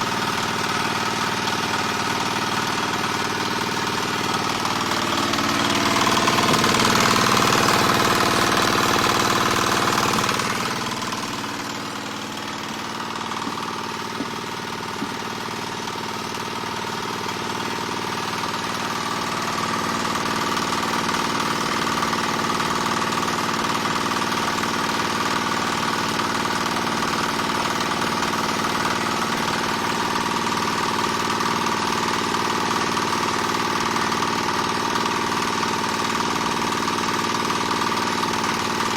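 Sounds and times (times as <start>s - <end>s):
oil press diesel engine running: 0.0s - 38.9s.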